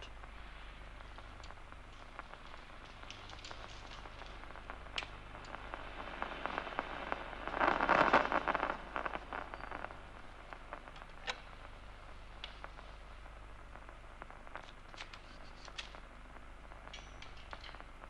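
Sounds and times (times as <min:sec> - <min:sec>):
crackling nerve impulse clicks: 0:00.0 - 0:18.0
steady low hum: 0:00.0 - 0:18.0.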